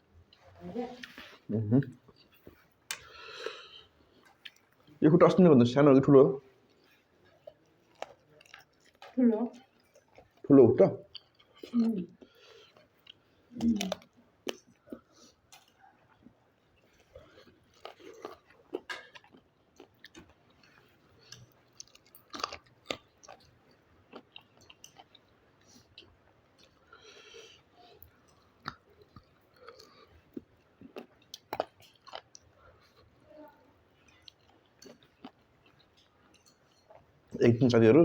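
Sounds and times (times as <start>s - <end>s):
person chewing crunchy food: 1.0s - 5.0s, 6.6s - 37.4s.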